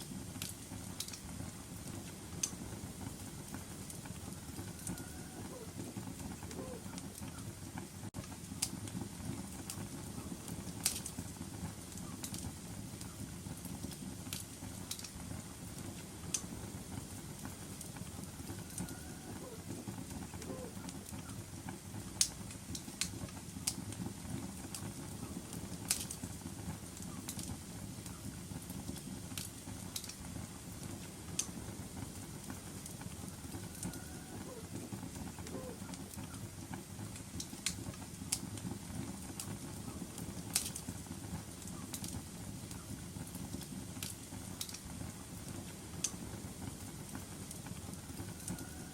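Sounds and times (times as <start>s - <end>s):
fire popping and snapping: 0.0s - 48.9s
wood fire crackling: 0.0s - 48.9s.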